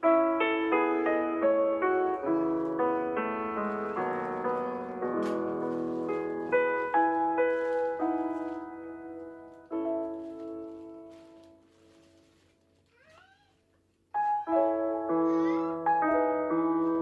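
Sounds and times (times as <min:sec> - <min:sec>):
slow piano music: 0:00.0 - 0:12.6, 0:14.2 - 0:17.0.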